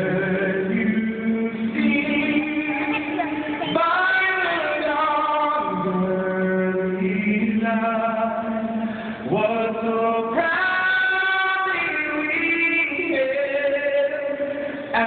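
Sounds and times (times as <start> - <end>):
man singing over public address: 0.0 - 15.0.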